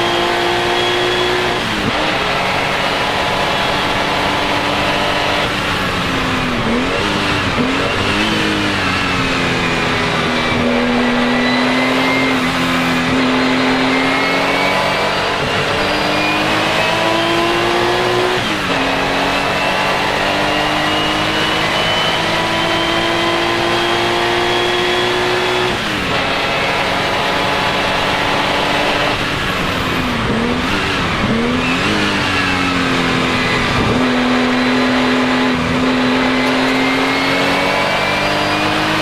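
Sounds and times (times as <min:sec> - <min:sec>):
racing engine under load: 0:00.0 - 0:39.0.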